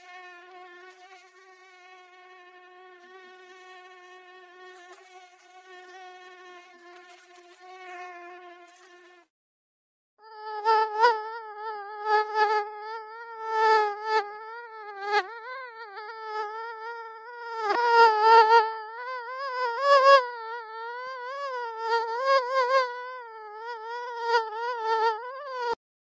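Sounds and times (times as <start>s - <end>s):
mosquito wing whine: 0.0s - 9.3s, 10.2s - 25.8s.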